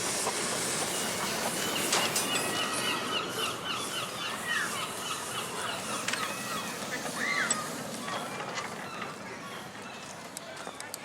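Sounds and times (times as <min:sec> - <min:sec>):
outdoor background noise: 0:00.0 - 0:11.0
birds chirping: 0:00.6 - 0:11.0.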